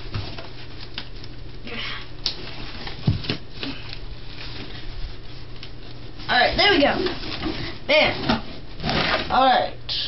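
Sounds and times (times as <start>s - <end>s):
cardboard rustle: 0.0s - 1.6s, 2.4s - 9.5s.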